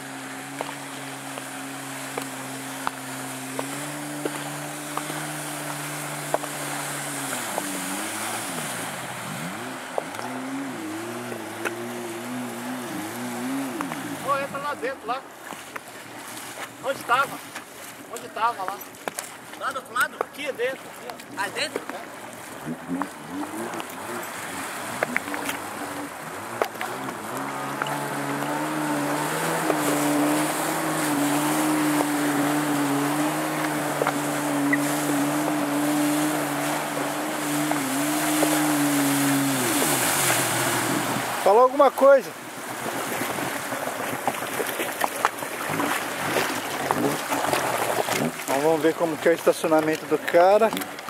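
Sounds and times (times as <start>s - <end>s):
rush of spray: 0.0s - 15.0s, 20.5s - 51.0s
jet ski engine running: 0.0s - 51.0s.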